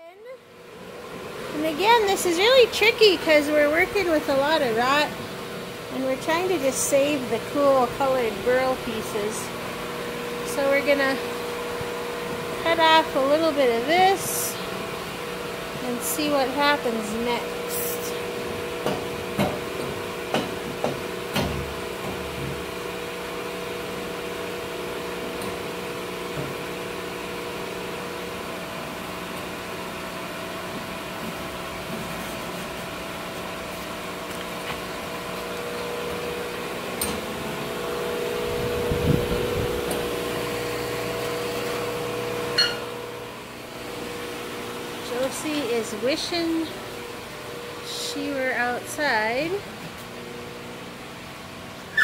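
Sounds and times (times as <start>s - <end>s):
sawmill motor humming: 0.5s - 52.0s.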